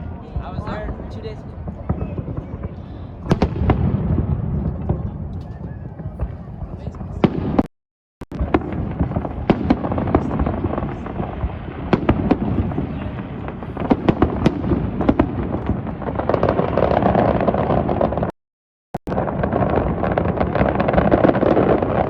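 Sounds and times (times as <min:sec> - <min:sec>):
fireworks bangs and crackles: 0:00.0 - 0:18.4, 0:19.0 - 0:22.0.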